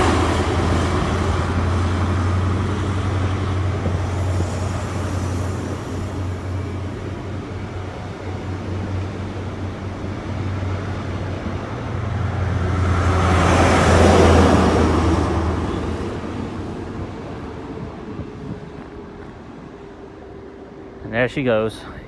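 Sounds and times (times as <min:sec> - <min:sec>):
diesel train engine droning: 0:00.0 - 0:22.0.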